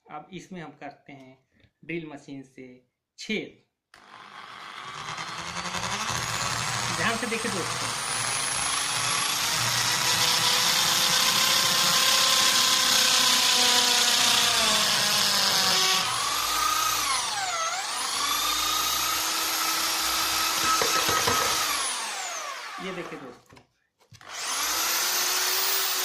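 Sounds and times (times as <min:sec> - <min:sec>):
electric drill whining: 0:04.0 - 0:23.2, 0:24.2 - 0:26.0.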